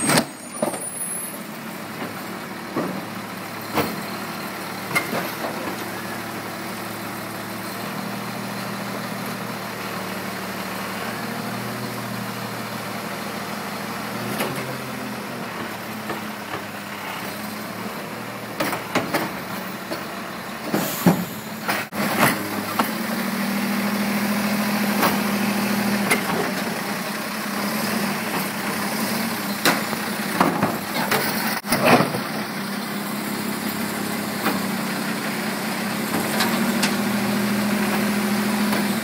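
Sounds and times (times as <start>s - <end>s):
garbage truck engine revving: 0.0s - 39.0s.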